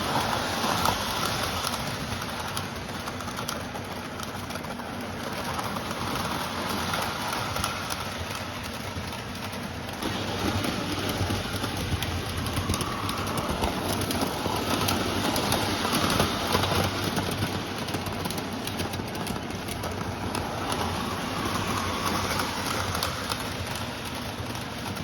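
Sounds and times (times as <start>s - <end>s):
model train wheels rolling: 0.0s - 25.0s
clicks over rail joints: 0.1s - 25.0s.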